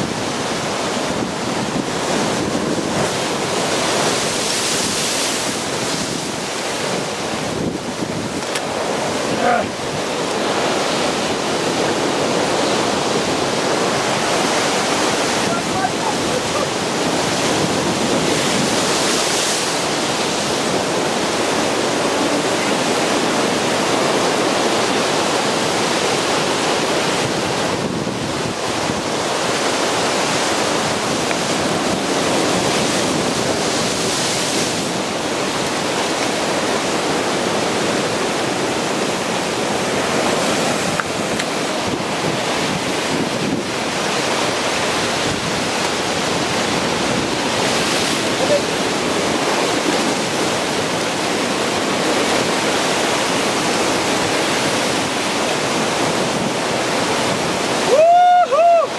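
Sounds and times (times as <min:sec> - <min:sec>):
ocean surf crashing over rocks: 0:00.0 - 0:58.9.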